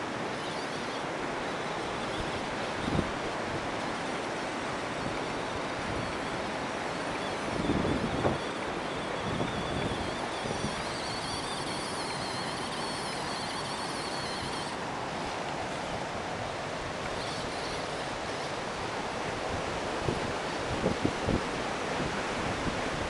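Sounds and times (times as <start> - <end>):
faint high wavering whine: 0.0 - 23.0
river water rushing: 0.0 - 23.0
wind on microphone: 2.0 - 3.9, 4.7 - 23.0.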